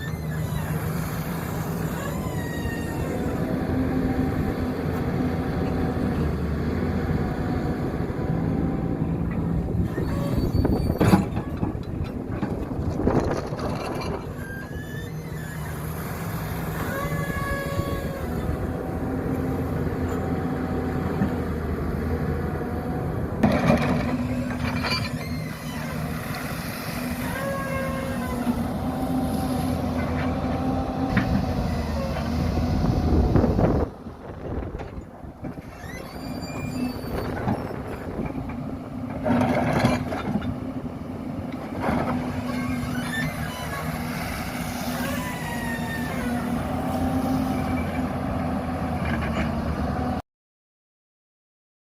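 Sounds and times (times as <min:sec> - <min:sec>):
hydraulics whining: 0:00.0 - 0:40.6, 0:41.4 - 0:48.1
excavator diesel engine running: 0:00.0 - 0:50.2.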